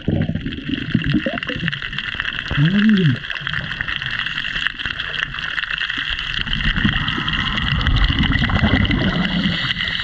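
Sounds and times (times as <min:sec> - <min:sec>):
low underwater rumble: 0:00.0 - 0:10.0
underwater high hum: 0:00.0 - 0:10.0.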